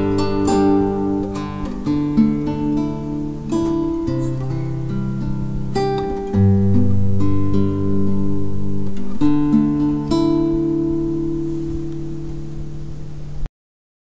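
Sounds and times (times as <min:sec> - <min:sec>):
acoustic guitar chords: 0:00.0 - 0:13.5.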